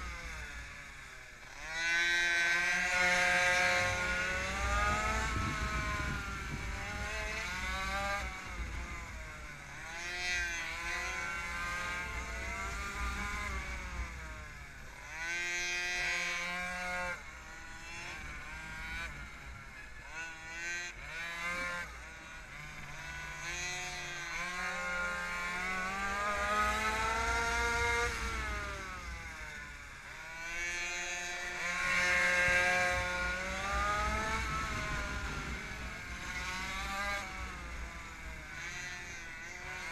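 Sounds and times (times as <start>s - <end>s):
pocket bike engine revving: 0.0s - 39.9s.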